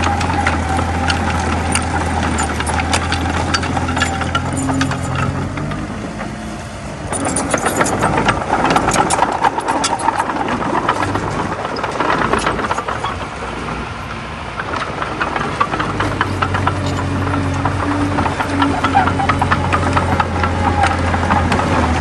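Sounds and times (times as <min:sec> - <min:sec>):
rapid metal clanks and rattles: 0:00.0 - 0:06.4, 0:07.0 - 0:22.0
bulldozer engine running: 0:00.0 - 0:22.0.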